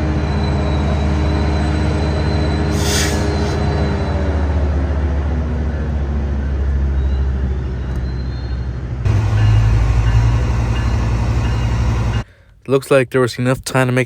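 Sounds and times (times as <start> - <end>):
diesel train engine rumbling: 0.0 - 12.6.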